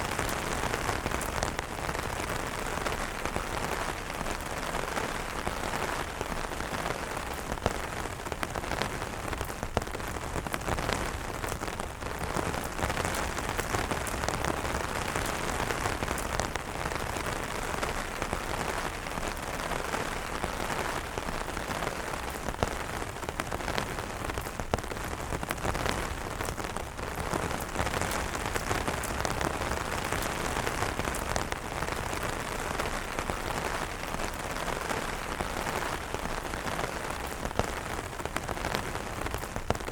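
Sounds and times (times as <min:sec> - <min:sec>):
rain falling on umbrellas: 0:00.0 - 0:39.9.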